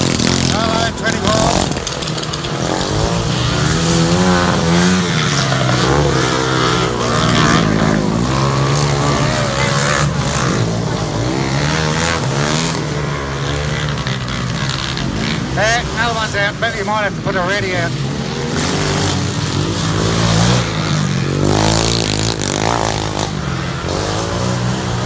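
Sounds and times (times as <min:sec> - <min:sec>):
racing mower engines revving: 0:00.0 - 0:25.0.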